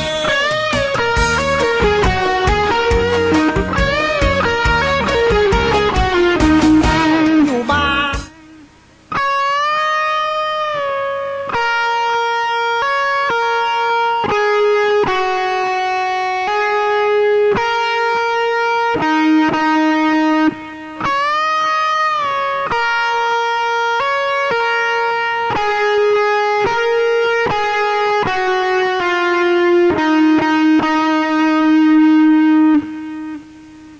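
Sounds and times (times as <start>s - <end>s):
guitar solo melody with string bends: 0.0s - 33.9s.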